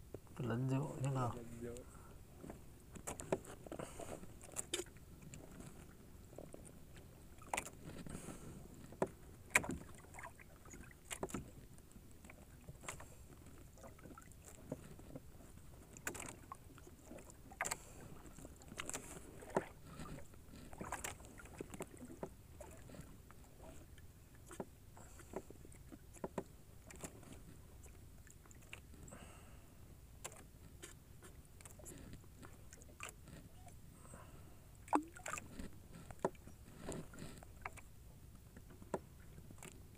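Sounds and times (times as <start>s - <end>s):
low steady background: 0.0s - 39.9s
knocks and clicks on boat: 2.4s - 29.2s, 34.8s - 39.9s.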